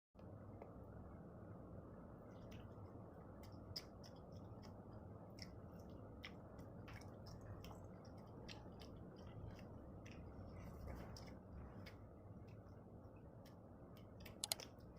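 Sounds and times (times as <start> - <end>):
chewing lip smacks: 2.3 - 14.9.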